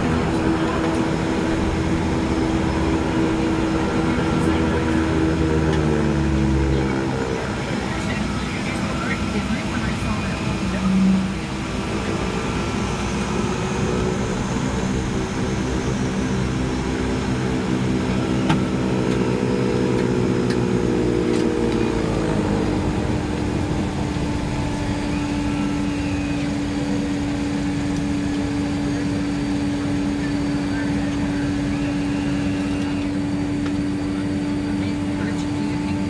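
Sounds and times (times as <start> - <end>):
propeller winding down: 0.0 - 36.0
turboprop engines and propellers running: 0.0 - 36.0.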